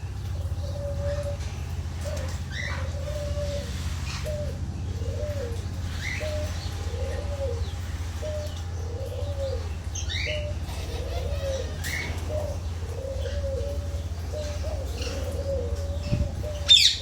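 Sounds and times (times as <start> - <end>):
birds chirping: 0.0 - 17.0
dove cooing: 0.0 - 17.0
steady low hum: 0.0 - 17.0.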